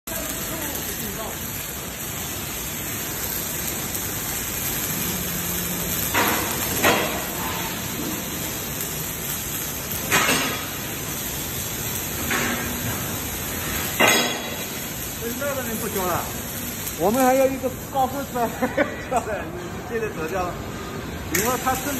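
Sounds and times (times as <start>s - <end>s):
arc welding hiss and crackle: 0.0s - 21.9s.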